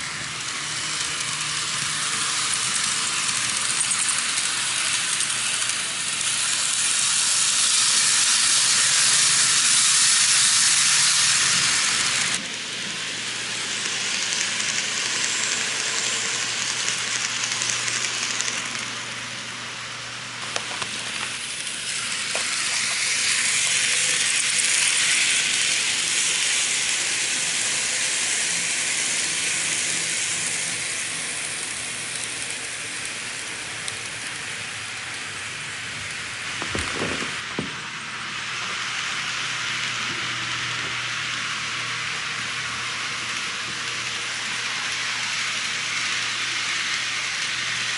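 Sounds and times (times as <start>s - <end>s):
model train motors whirring: 0.0s - 47.9s.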